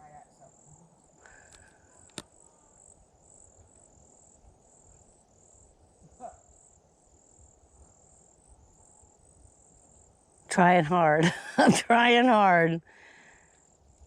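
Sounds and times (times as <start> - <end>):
faint insect chirping: 0.0 - 14.0.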